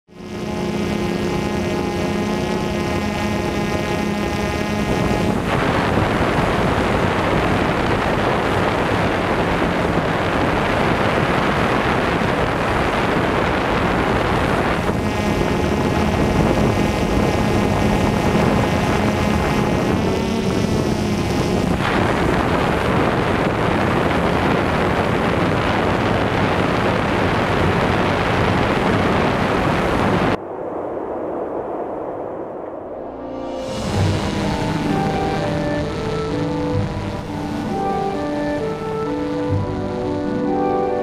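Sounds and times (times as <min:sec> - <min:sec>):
drone propellers humming: 0:00.0 - 0:41.0
wind noise on microphone: 0:00.0 - 0:41.0.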